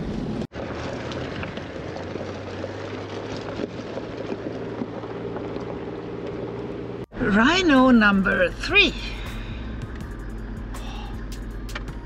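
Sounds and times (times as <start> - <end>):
diesel truck engine running: 0.0 - 12.0
road noise: 0.0 - 12.0.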